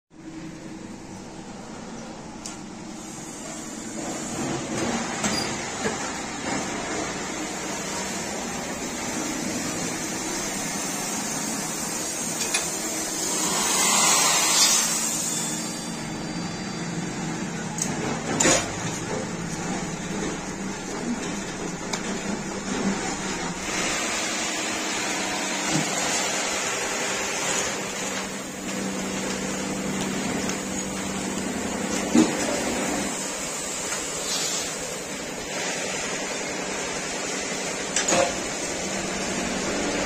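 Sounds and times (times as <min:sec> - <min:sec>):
plastic moulding machine hum: 0:00.2 - 0:40.0.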